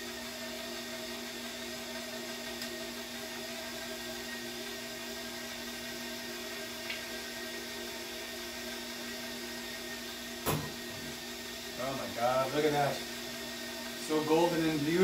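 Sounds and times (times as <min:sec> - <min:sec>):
stand mixer motor humming: 0:00.0 - 0:15.0.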